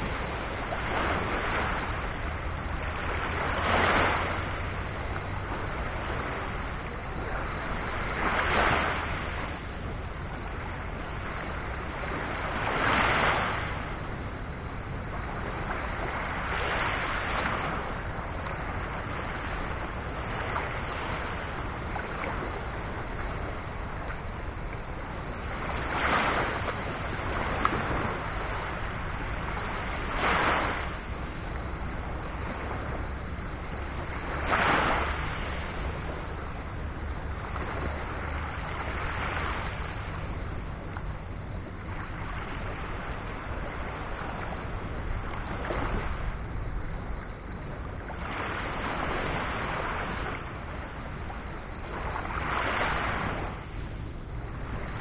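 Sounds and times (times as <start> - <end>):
gentle sea surf washing: 0.0 - 55.0
waves breaking on shore: 0.0 - 55.0.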